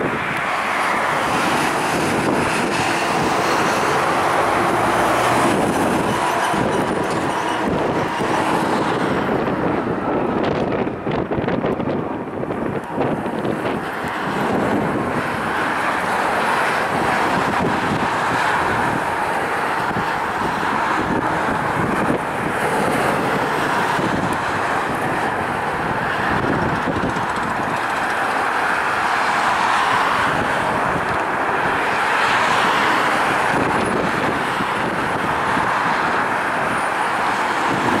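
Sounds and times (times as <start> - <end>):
jet taxiing: 0.0 - 38.0.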